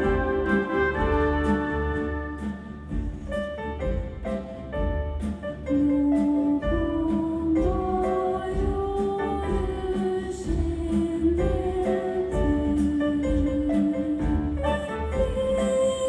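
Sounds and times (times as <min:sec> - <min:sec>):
strings piano and percussion ensemble: 0:00.0 - 0:16.0.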